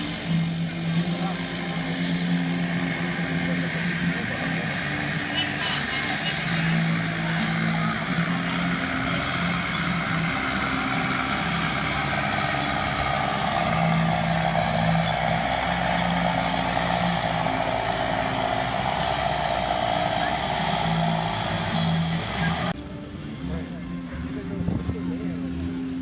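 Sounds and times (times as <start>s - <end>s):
diesel tractor engine droning: 0.0s - 26.0s.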